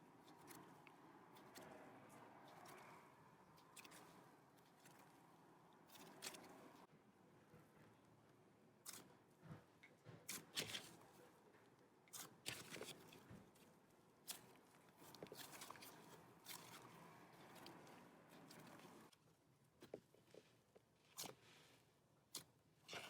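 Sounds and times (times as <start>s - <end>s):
slime squishing with clicks: 0.1s - 6.8s, 8.8s - 21.5s, 22.2s - 23.0s.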